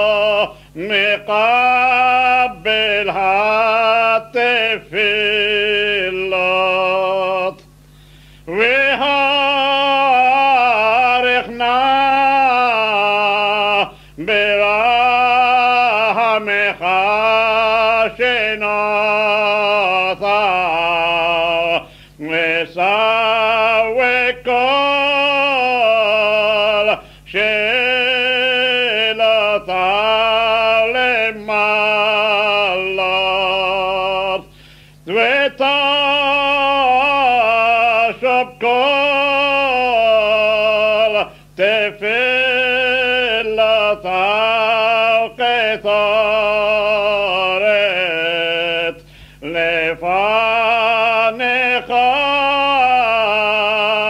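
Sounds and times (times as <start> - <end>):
man singing unaccompanied: 0.0 - 54.0.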